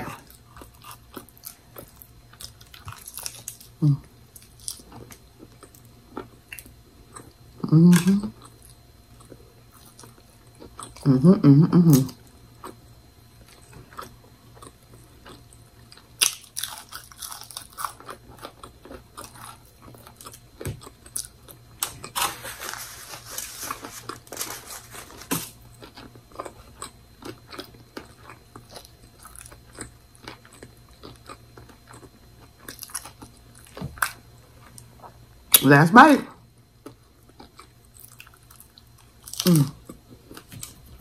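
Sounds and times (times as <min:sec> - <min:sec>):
chewing crunchy sandwich: 0:00.0 - 0:35.6, 0:36.4 - 0:41.0.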